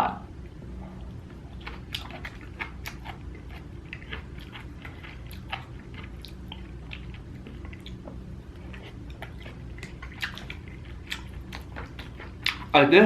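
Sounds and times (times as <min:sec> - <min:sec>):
steady low hum: 0:00.0 - 0:13.0
wet chewing mouth sounds: 0:00.9 - 0:12.8.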